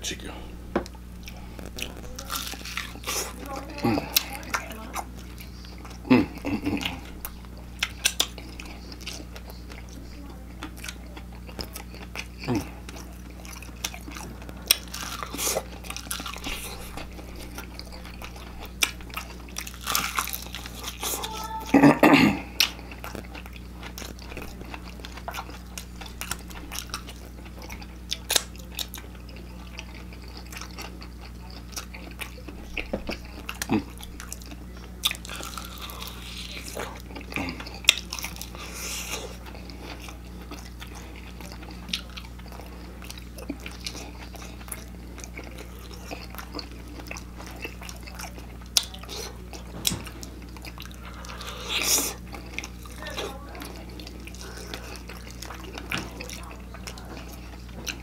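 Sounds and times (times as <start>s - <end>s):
low steady hum: 0.0s - 58.0s
crunching and chewing fried chicken: 0.2s - 58.0s.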